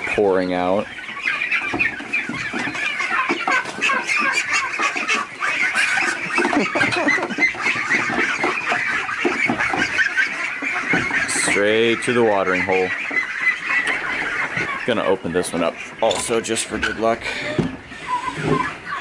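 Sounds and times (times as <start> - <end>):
ducks and chickens calling: 0.0 - 19.0.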